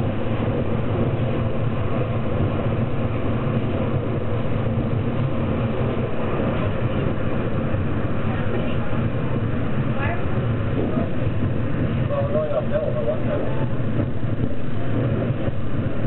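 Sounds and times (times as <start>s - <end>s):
rumble of railcar wheels: 0.0s - 16.0s.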